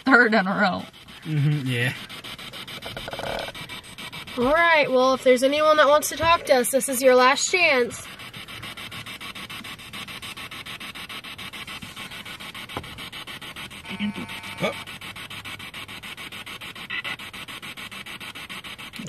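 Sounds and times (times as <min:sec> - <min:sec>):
choppy radio static pulsing: 0:00.0 - 0:19.0.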